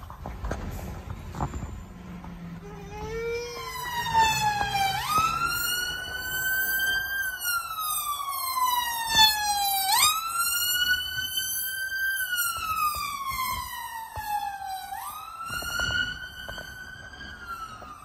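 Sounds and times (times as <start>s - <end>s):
ambulance siren wailing: 0.4s - 18.0s.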